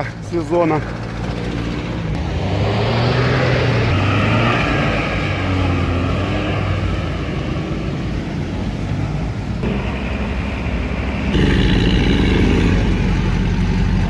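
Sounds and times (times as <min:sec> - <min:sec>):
off-road vehicle engines running: 0:00.0 - 0:14.0.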